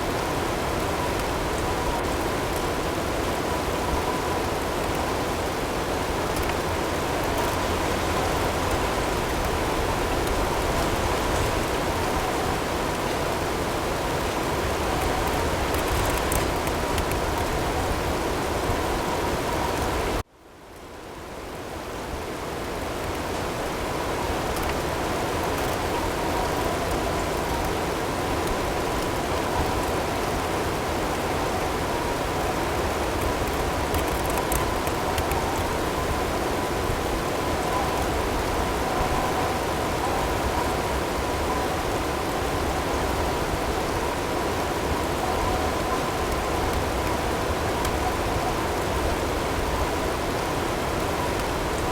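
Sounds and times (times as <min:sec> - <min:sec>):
blizzard wind with snow and hail: 0:00.0 - 0:51.9.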